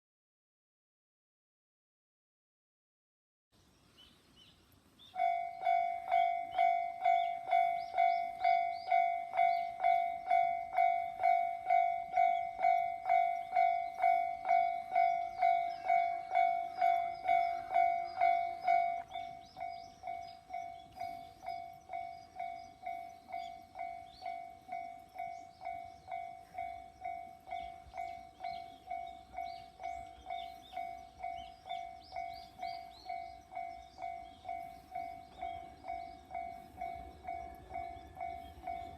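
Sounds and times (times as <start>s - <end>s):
level crossing warning bell: 5.2s - 38.9s.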